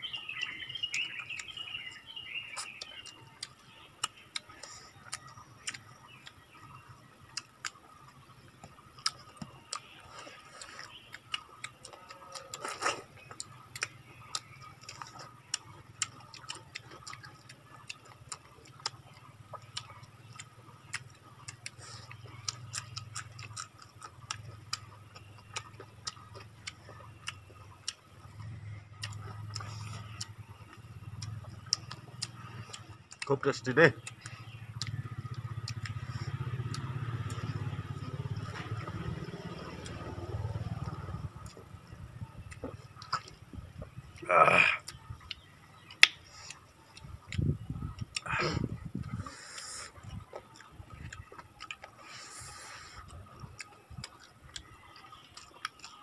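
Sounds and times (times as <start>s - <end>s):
faint low hum: 0.0s - 56.0s
people chewing with lip smacks: 0.0s - 56.0s.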